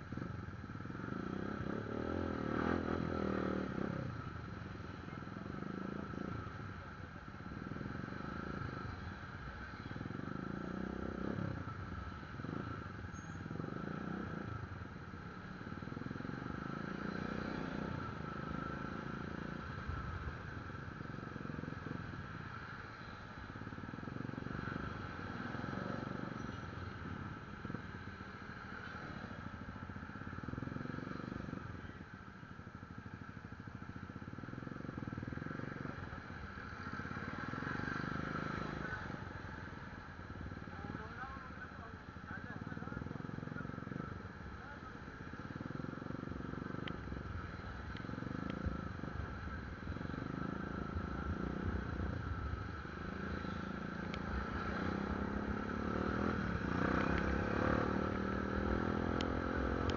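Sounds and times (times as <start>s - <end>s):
motorcycle engine and road rumble: 0.0s - 59.9s.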